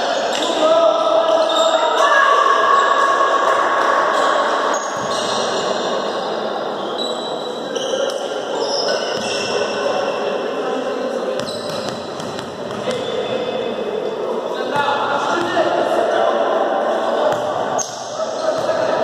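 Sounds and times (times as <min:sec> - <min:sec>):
echoing hall noise: 0:00.0 - 0:19.0.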